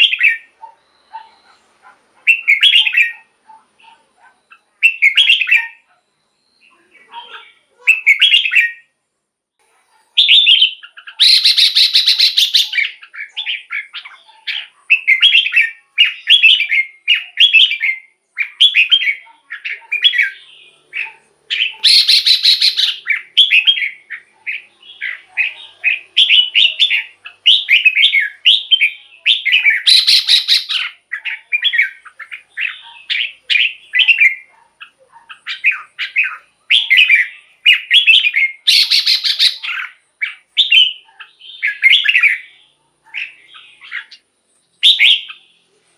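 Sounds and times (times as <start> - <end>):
bird whistled song: 0.0 - 1.6, 2.3 - 3.3, 4.4 - 6.8, 7.9 - 8.9, 10.2 - 44.2, 44.8 - 45.6
harsh rasping bird calls: 0.0 - 6.0, 10.0 - 45.7.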